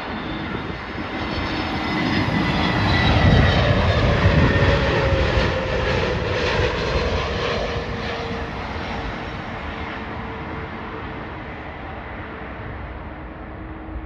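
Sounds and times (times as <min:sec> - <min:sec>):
jet airliner passing over: 0:00.0 - 0:14.0
jet engine whine: 0:00.0 - 0:14.0.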